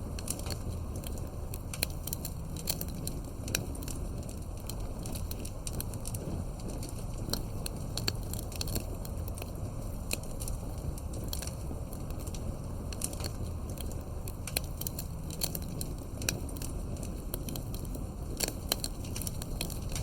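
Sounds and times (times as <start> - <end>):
firewood popping and snapping: 0.0 - 20.0
low rumble of flames: 0.0 - 20.0.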